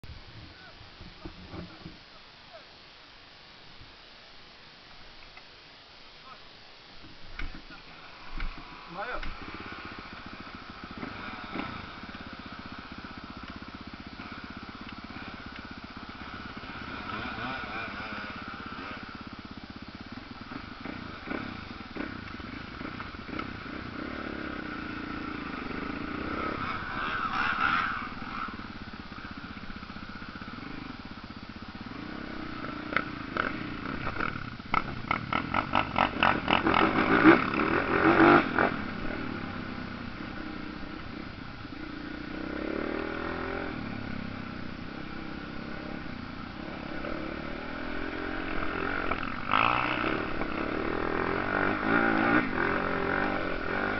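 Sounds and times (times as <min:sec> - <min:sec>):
motocross bike engines revving: 0:07.4 - 0:53.9.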